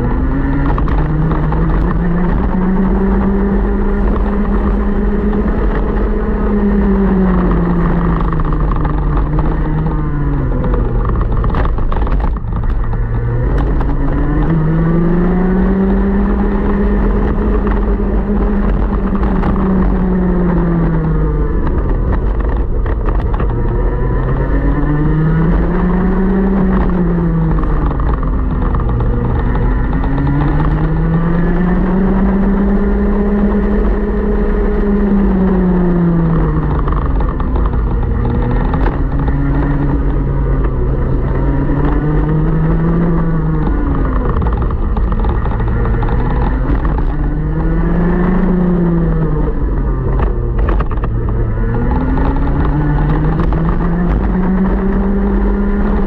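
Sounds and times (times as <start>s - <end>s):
kart engine under racing load: 0.0s - 56.0s.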